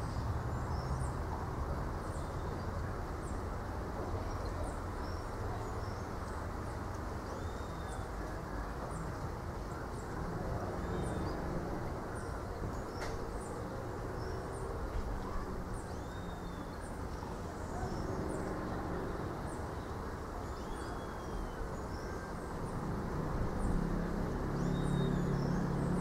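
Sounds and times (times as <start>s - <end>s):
wind through palm trees: 0.0s - 26.0s
birds chirping: 2.0s - 26.0s.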